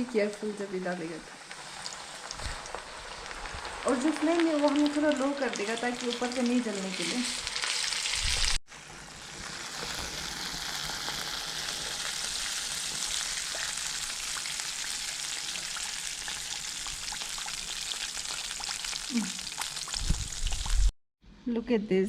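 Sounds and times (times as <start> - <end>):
chicken deep-frying in oil: 0.0 - 20.9.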